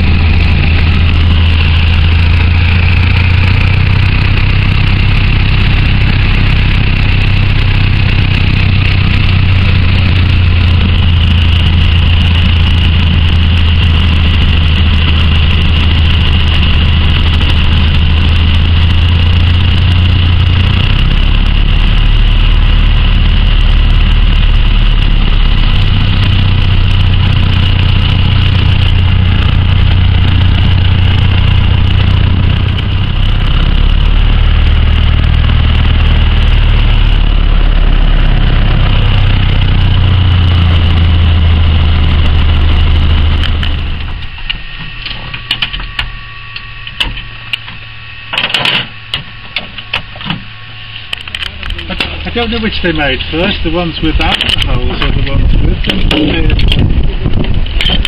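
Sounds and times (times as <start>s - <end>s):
aircraft engine droning: 0.0s - 58.0s.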